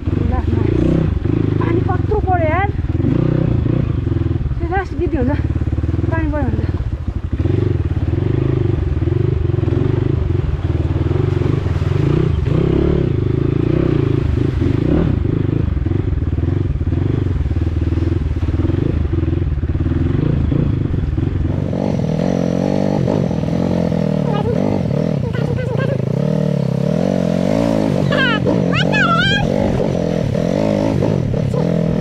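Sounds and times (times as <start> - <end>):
dirt bike engine running: 0.0 - 32.0.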